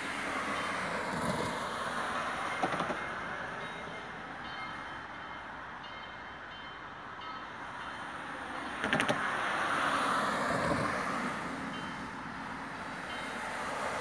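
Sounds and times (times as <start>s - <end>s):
steam locomotive approaching: 0.0s - 14.0s.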